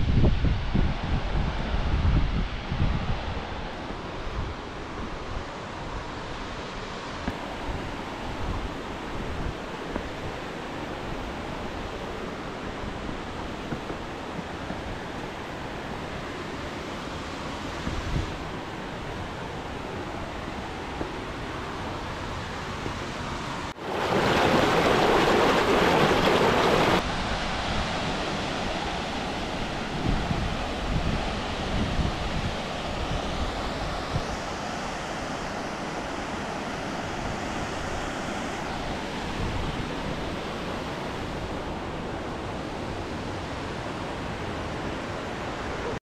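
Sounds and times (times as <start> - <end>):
wind on microphone: 0.0 - 46.0
flowing water: 3.3 - 46.0.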